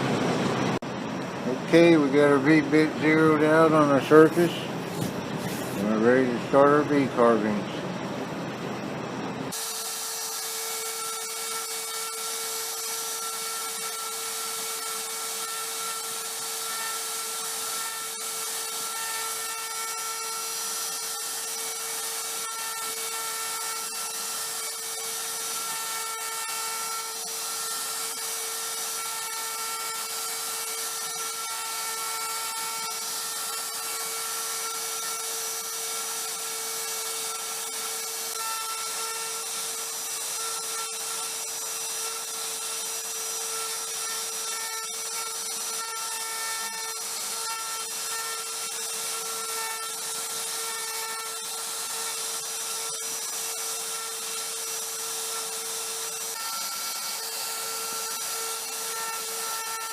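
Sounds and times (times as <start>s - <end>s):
cnc router spindle whining: 0.0s - 59.9s.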